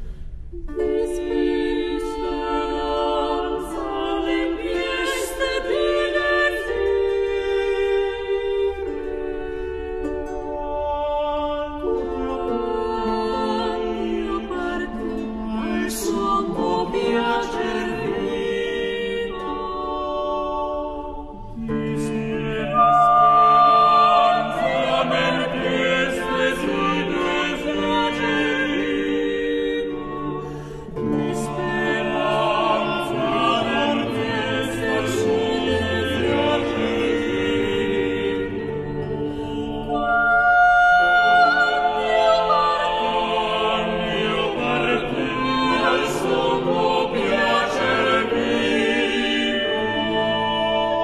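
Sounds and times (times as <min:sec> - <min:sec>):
voices singing long notes: 0:00.7 - 0:51.0.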